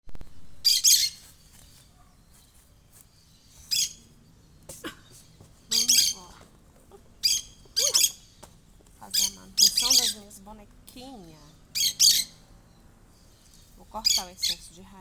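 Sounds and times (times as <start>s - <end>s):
parakeets chirping: 0.6s - 2.2s, 3.2s - 4.5s, 5.2s - 15.0s.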